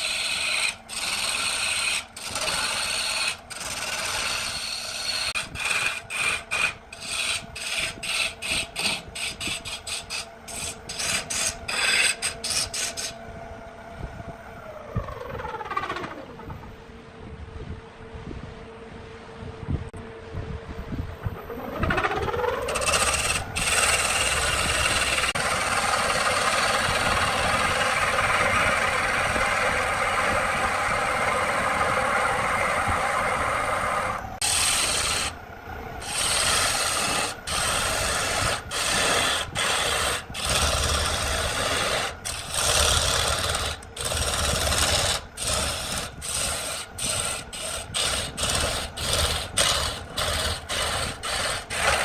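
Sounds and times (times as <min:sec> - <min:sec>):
chisel cutting wood on a lathe: 0:00.0 - 0:13.2, 0:22.6 - 0:35.4, 0:36.0 - 0:52.0.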